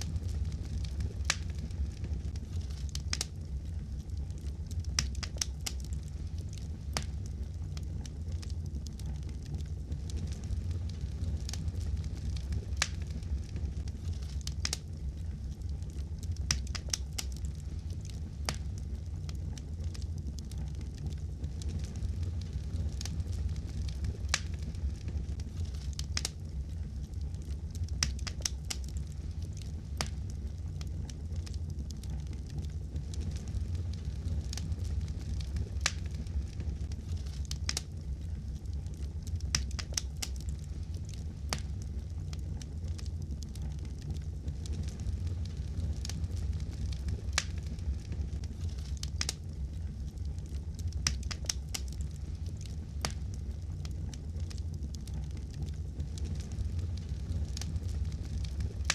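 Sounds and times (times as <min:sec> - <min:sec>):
low rumble of flames: 0:00.0 - 0:58.9
wood fire crackling: 0:00.0 - 0:58.9.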